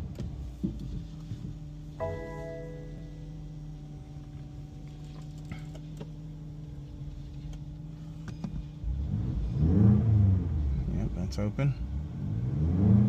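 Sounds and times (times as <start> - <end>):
car cabin low hum: 0.0 - 12.5
car engine starting: 0.0 - 13.0.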